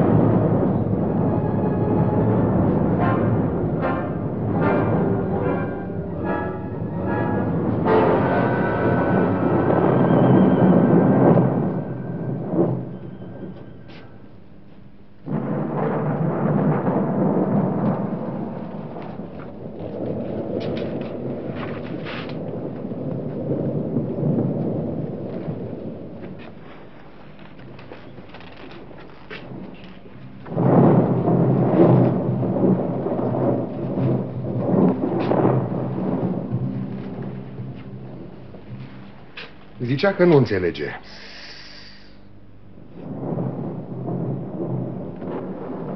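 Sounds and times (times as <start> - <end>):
rolling thunder: 0.0 - 41.0, 42.3 - 45.9
loud low rumble: 0.0 - 41.1, 42.3 - 45.9.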